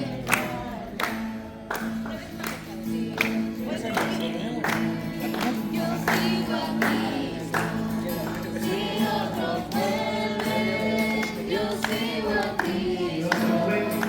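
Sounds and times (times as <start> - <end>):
group singing worship song: 0.0 - 14.0.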